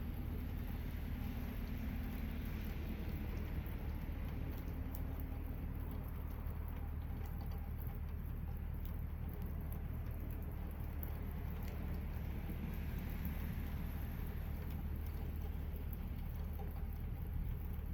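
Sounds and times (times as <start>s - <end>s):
light rain and dripping water: 0.0s - 17.9s
low steady hum: 0.0s - 17.9s.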